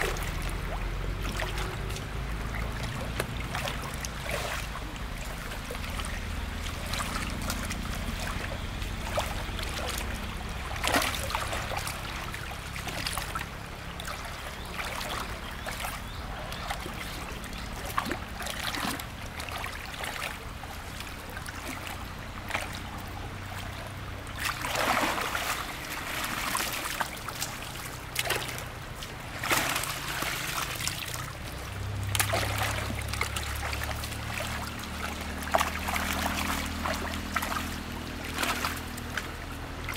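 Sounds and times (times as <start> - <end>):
water pump motor hum: 0.0 - 39.9
water trickling and splashing: 0.0 - 39.9.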